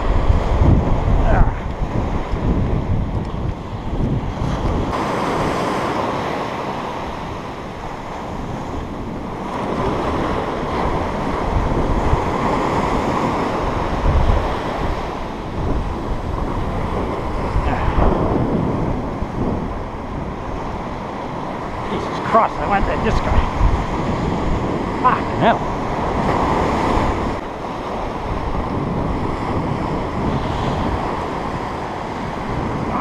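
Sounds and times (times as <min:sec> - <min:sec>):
surf breaking on sand: 0:00.0 - 0:33.0
wind buffeting microphone: 0:00.0 - 0:33.0.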